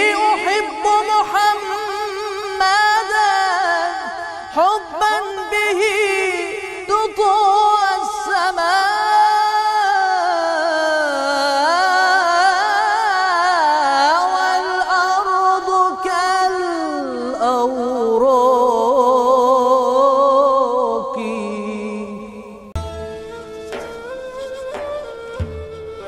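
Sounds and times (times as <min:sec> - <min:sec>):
man chanting unaccompanied: 0:00.0 - 0:22.5.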